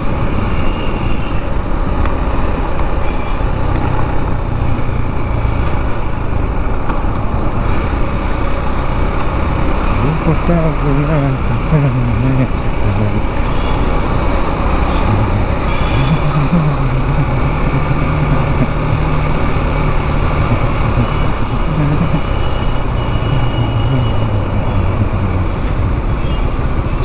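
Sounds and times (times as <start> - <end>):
road noise: 0.0 - 27.0
motorcycle engine running: 1.6 - 27.0.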